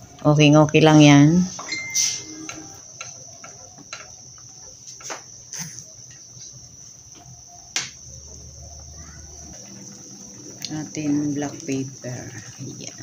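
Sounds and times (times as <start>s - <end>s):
pan simmering on stove: 0.0s - 13.0s.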